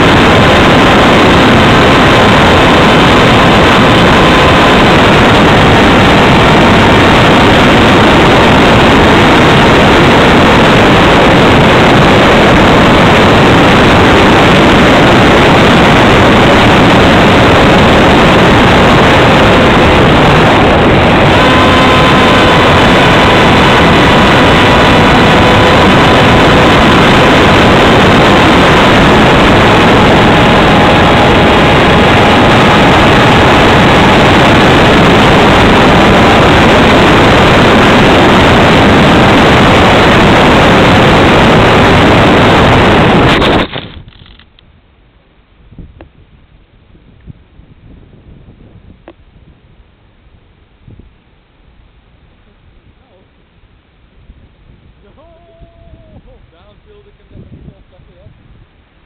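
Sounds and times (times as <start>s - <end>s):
electric motor and propeller whine: 0.0s - 45.4s, 46.0s - 59.0s
wind rush over microphone: 0.0s - 59.0s.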